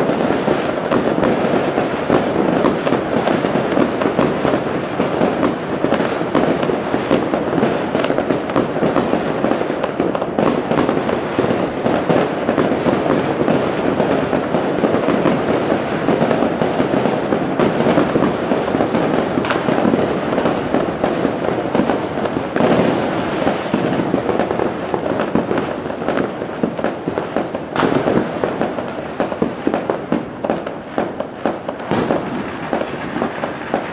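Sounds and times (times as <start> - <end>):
firecrackers crackling: 0.0 - 33.9.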